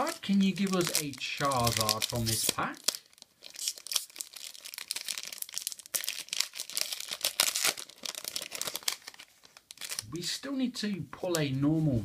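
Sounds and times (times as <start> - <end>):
foil wrapper crinkling and tearing: 0.0 - 10.1.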